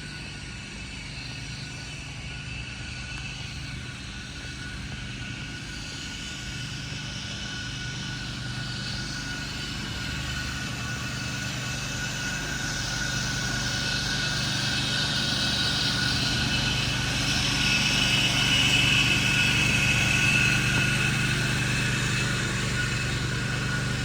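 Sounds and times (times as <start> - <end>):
engine hum with high whine: 0.0 - 24.0.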